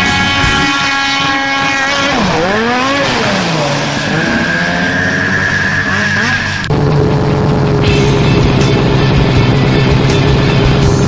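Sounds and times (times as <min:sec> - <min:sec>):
snowmobile engine high revs: 0:00.0 - 0:11.0.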